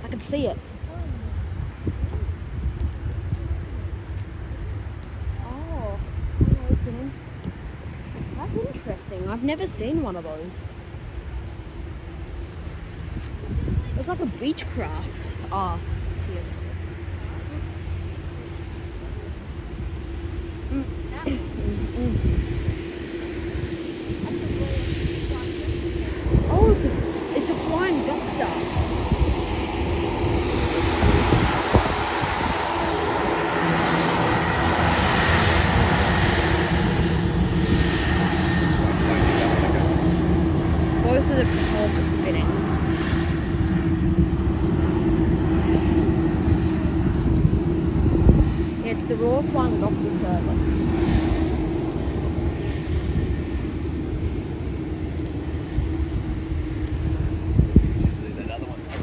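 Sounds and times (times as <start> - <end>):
turboprop engine drone: 0.0 - 59.0.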